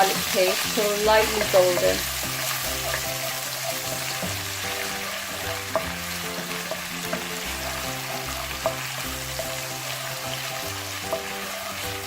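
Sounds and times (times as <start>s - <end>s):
paste sizzling in hot oil: 0.0s - 12.0s
soft background music: 0.0s - 12.0s.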